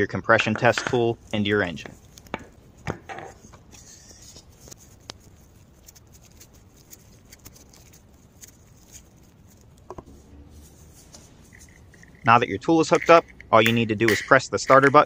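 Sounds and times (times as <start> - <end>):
small clicks and light scrapes: 0.6 - 10.1, 10.8 - 15.0.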